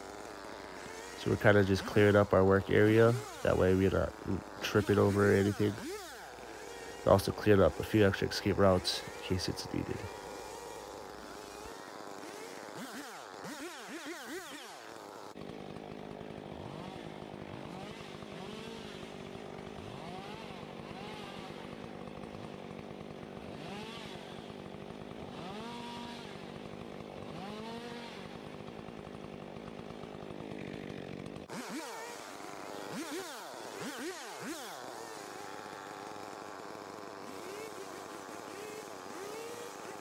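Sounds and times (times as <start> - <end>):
chainsaw engine revving: 0.0 - 40.0.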